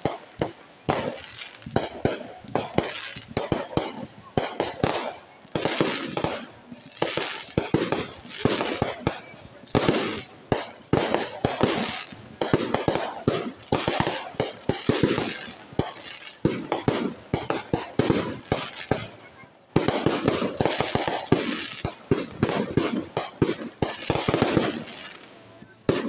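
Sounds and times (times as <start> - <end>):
fireworks bangs: 0.0 - 26.0
hissing crackle of fireworks: 0.0 - 26.0.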